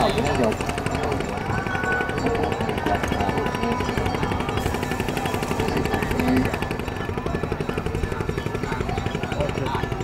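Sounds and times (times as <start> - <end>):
boat engine chugging: 0.0 - 10.0.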